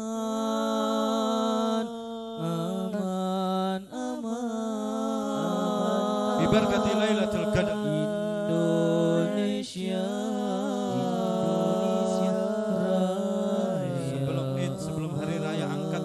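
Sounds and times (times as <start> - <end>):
man chanting into a microphone: 0.4 - 16.0.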